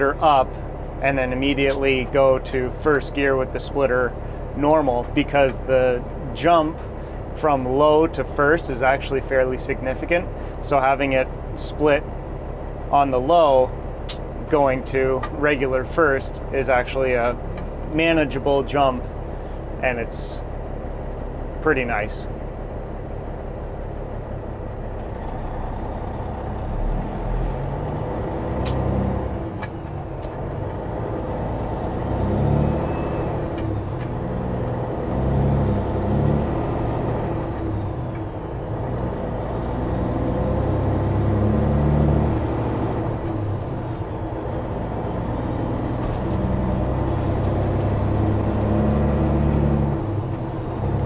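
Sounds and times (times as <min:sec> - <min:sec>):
diesel truck engine pulling: 0:00.0 - 0:51.0.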